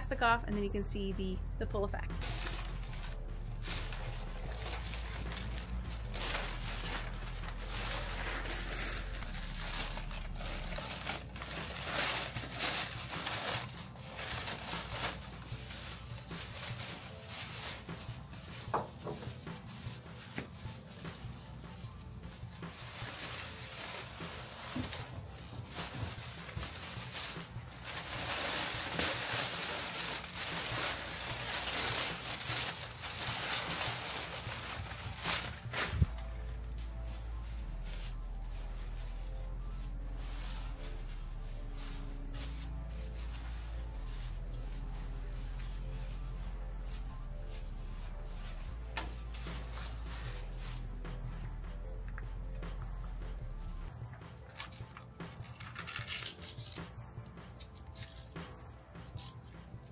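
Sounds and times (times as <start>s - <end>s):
plastic sheeting rustling and crackling: 2.2s - 51.4s.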